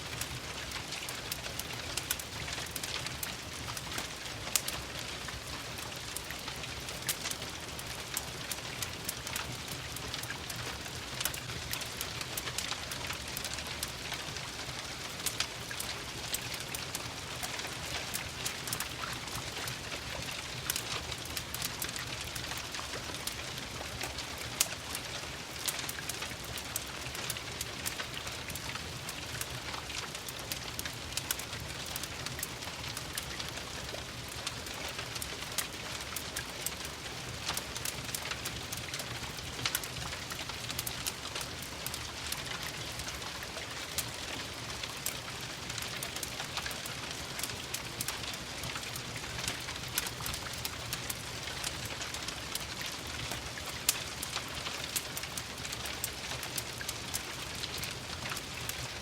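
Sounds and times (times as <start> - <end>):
rain pattering: 0.0 - 59.0
wood fire crackling: 0.0 - 59.0.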